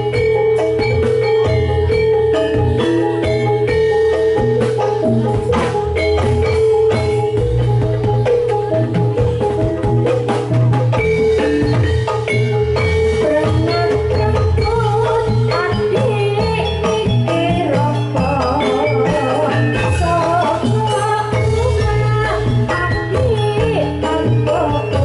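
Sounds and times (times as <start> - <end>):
gamelan metallophones ringing: 0.0 - 25.0.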